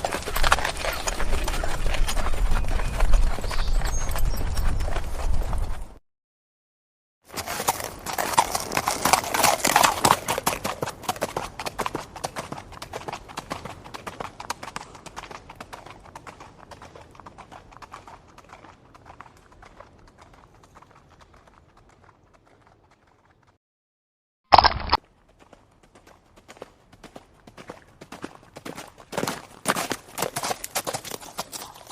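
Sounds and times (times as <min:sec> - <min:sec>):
horse hoofbeats clip-clopping: 0:00.0 - 0:06.0, 0:07.3 - 0:23.6, 0:25.0 - 0:31.9.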